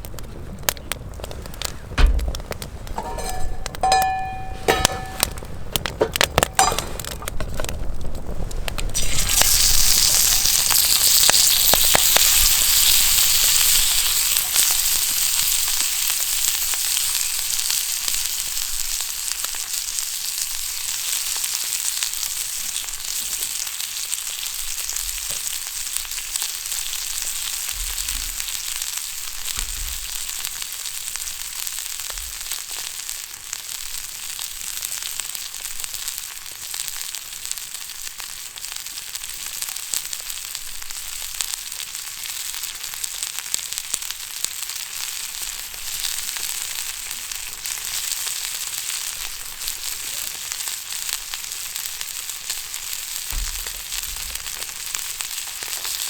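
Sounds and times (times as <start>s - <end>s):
food sizzling in a hot pan: 8.8s - 56.0s.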